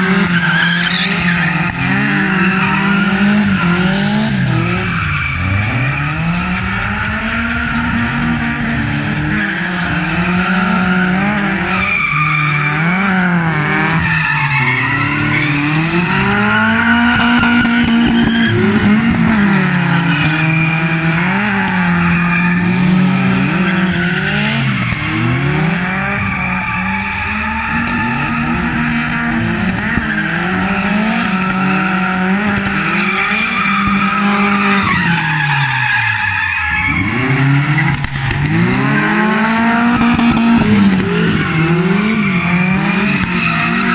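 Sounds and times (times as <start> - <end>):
car engine revving hard: 0.0 - 43.9
tyre squeal: 0.0 - 43.9.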